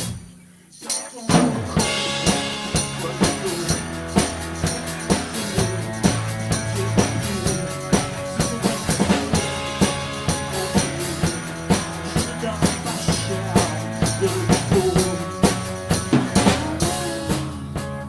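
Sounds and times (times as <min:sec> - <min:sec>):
drum kit beat: 0:00.0 - 0:18.0
band playing instrumental: 0:01.3 - 0:18.0.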